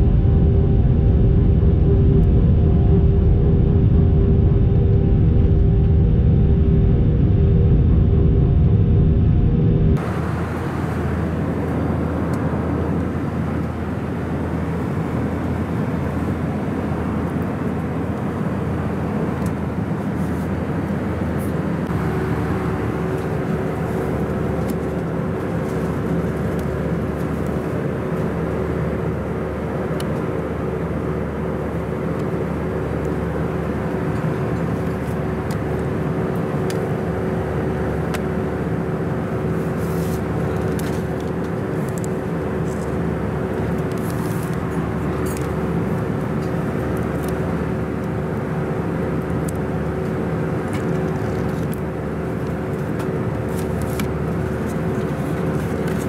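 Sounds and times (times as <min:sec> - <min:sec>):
steady hum: 0:00.0 - 0:17.1, 0:20.6 - 0:56.0
cabin engine roar: 0:00.0 - 0:56.0.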